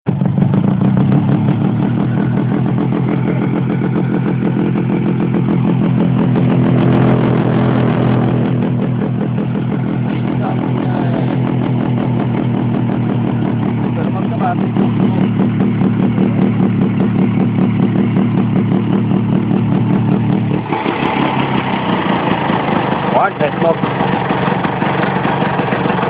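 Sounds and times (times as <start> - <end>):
two-stroke motorcycle engine idling: 0.1 - 26.0.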